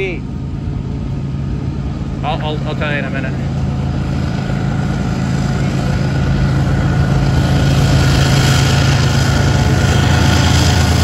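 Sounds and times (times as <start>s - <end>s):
locomotive engine drone: 0.0s - 11.0s.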